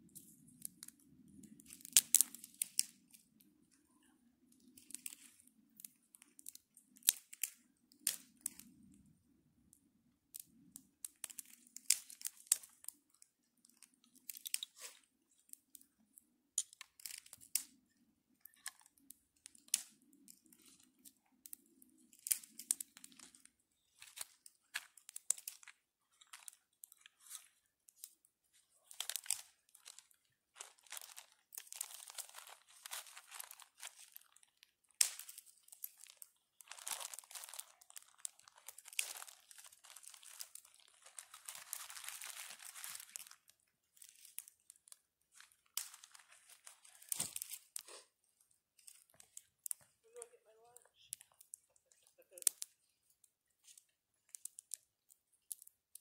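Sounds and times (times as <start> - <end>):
paper and plastic crinkling: 4.7 - 8.7, 11.2 - 15.4, 18.4 - 56.0.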